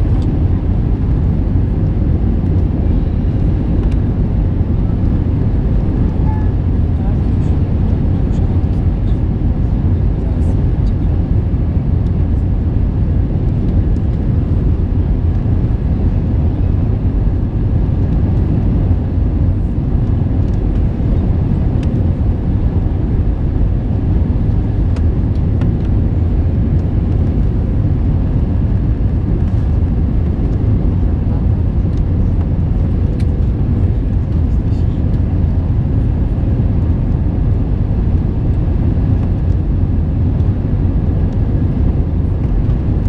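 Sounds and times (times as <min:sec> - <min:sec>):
aircraft cabin engine rumble: 0:00.0 - 0:43.0.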